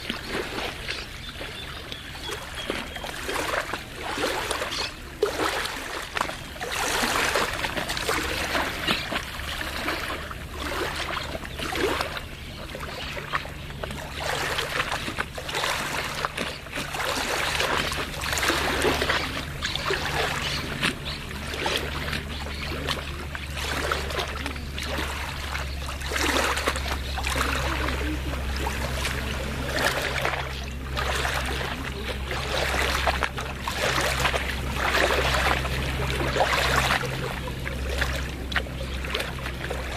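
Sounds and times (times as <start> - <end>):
small waves lapping on shore: 0.0 - 39.9
steady low rumble: 5.8 - 39.9.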